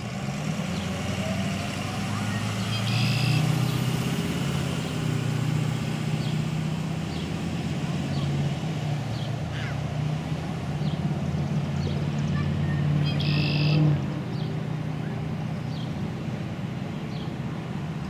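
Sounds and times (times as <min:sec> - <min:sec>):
traffic driving past: 0:00.0 - 0:18.0.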